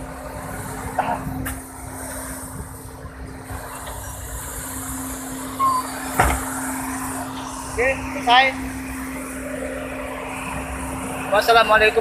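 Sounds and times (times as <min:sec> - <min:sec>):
machinery hum: 0:00.0 - 0:12.0
rumbling background noise: 0:00.0 - 0:12.0.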